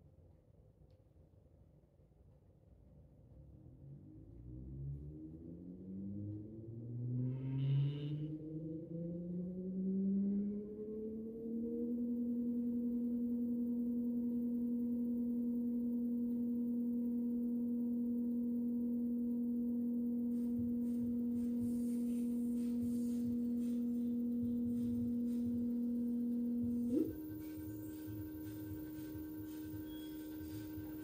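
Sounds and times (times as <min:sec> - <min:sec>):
electric scooter electrical tone: 0:05.2 - 0:31.0.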